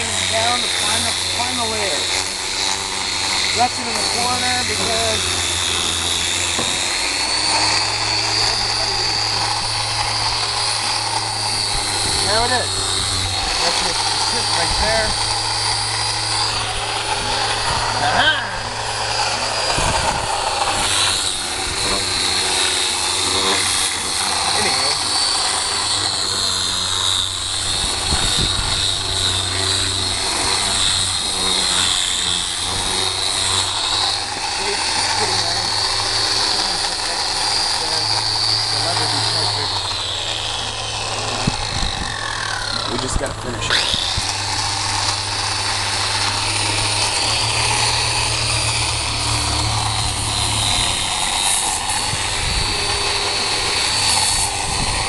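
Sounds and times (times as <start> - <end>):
electric sander whining: 0.0 - 55.0
low hum: 0.0 - 55.0.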